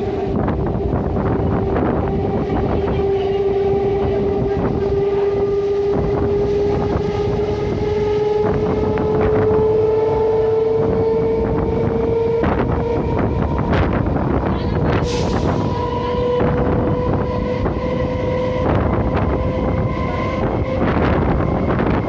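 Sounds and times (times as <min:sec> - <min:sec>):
rumble and wind of moving coach: 0:00.0 - 0:22.0
train traction motors whining: 0:00.0 - 0:22.0.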